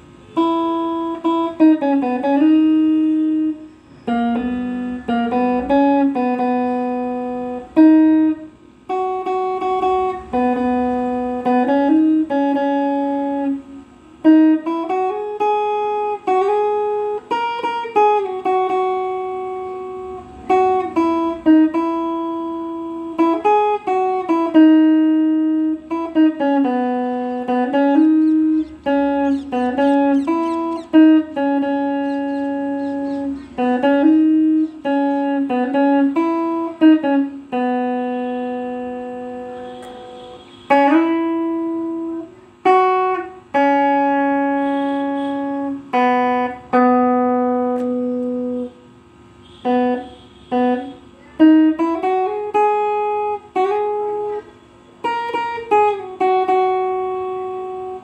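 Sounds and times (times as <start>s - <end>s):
guitar playing slow melody: 0.0s - 58.0s.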